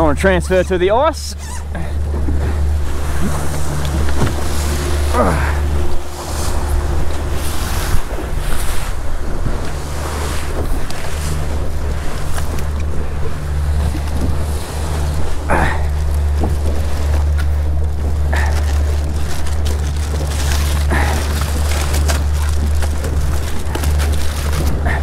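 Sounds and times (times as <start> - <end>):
boat engine humming: 0.0 - 25.0
water rushing along hull: 0.0 - 25.0
wind buffeting microphone: 0.0 - 25.0.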